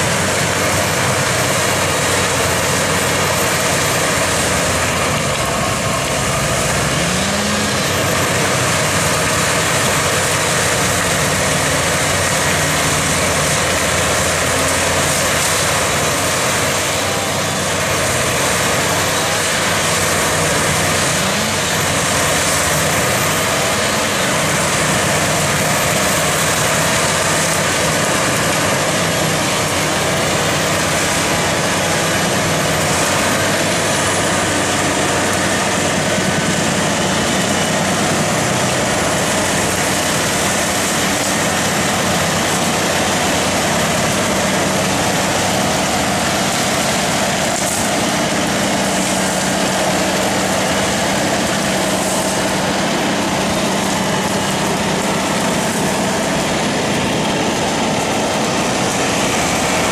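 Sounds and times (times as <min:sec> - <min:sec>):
tractor engine with mulcher shredding: 0:00.0 - 0:59.9.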